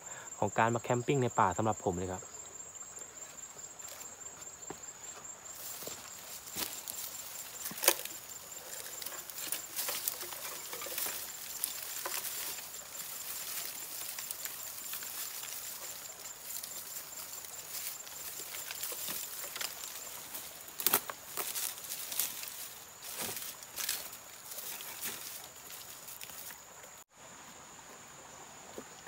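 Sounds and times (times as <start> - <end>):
dry grass and leaves rustling: 2.8 - 27.0.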